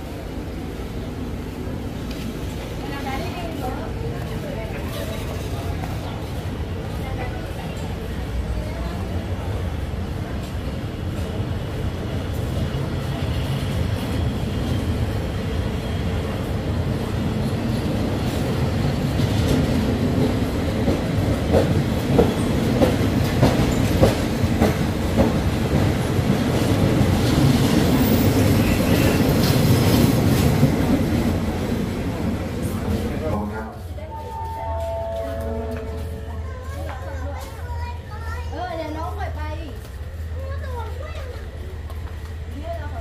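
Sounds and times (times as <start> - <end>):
train coaches rumbling past: 0.0 - 43.0.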